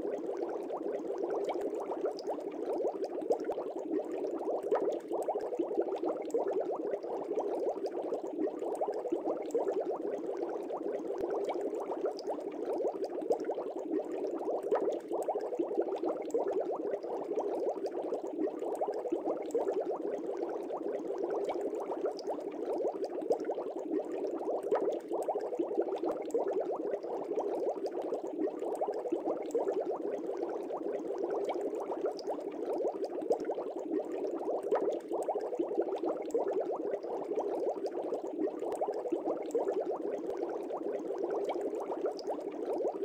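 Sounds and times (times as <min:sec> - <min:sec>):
water bubbling: 0:00.0 - 0:43.0.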